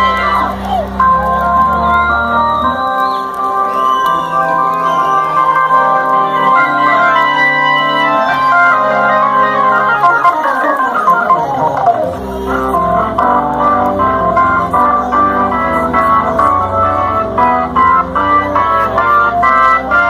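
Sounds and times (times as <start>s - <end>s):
organ playing chords and runs: 0.0s - 20.0s.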